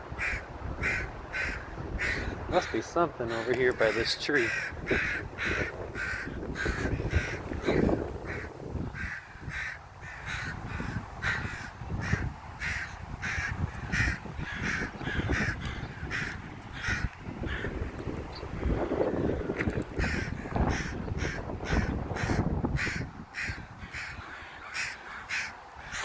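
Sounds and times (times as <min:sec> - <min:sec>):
crows cawing: 0:00.2 - 0:17.8, 0:20.0 - 0:26.0.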